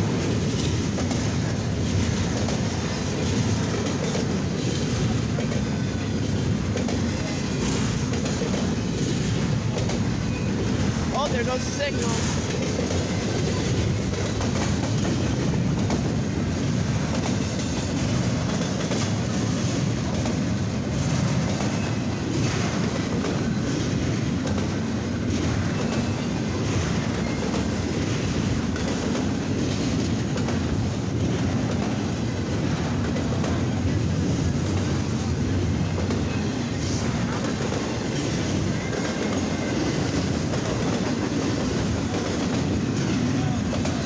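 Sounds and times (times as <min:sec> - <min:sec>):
freight train rolling past: 0:00.0 - 0:44.0
wheels clicking over rail joints: 0:00.0 - 0:44.0.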